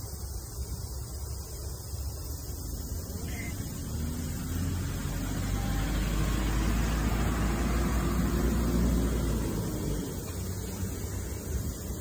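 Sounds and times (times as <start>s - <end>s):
vehicle engine rumble: 0.2s - 12.0s.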